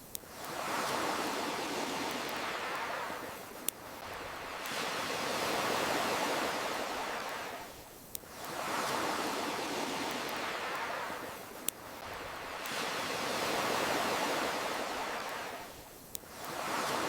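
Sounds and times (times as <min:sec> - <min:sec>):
ocean waves surging: 0:00.3 - 0:17.0.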